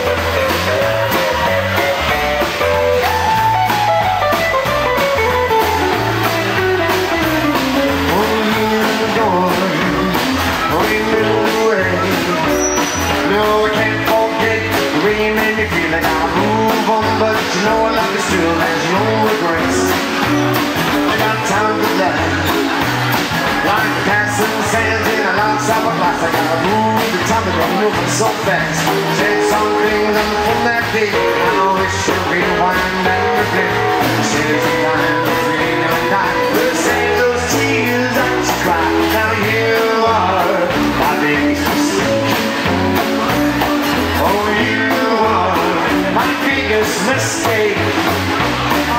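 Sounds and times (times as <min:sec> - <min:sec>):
double bass walking line: 0:00.0 - 0:48.9
drums: 0:00.0 - 0:48.9
electric guitar lead: 0:00.0 - 0:48.9.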